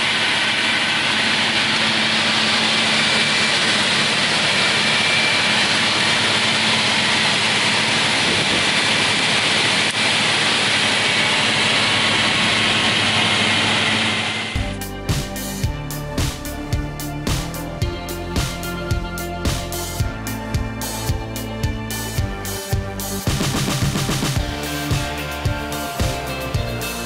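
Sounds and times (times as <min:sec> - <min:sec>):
saw running with whine: 0:00.0 - 0:15.6, 0:17.5 - 0:27.0.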